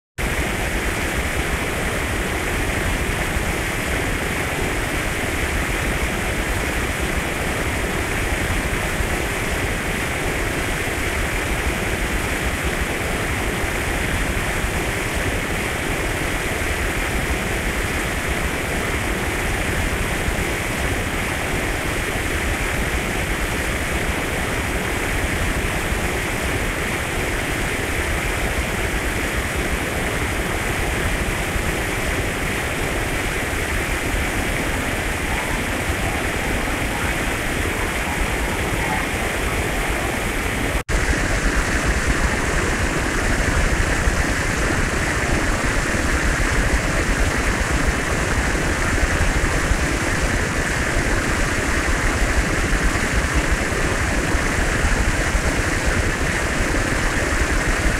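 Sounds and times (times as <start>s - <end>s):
fountain water splashing: 0.2s - 57.9s.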